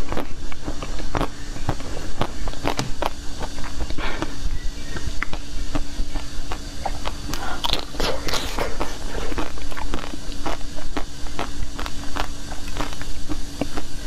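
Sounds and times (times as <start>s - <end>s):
crunching frozen chocolate: 0.0s - 14.0s.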